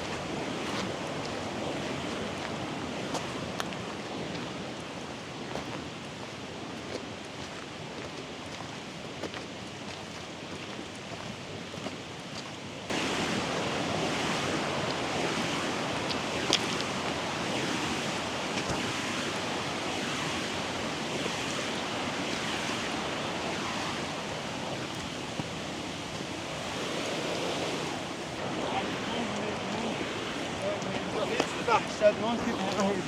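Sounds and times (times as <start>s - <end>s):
mountain stream rushing: 0.0s - 10.6s, 12.9s - 33.0s.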